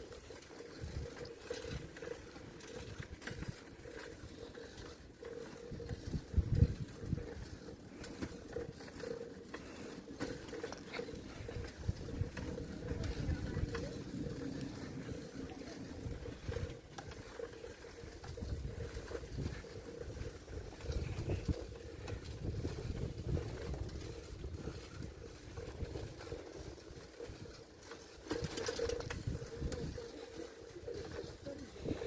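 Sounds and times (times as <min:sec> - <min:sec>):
small rattles and clicks: 0:00.0 - 0:32.0
wind rumbling on microphone: 0:00.0 - 0:32.0.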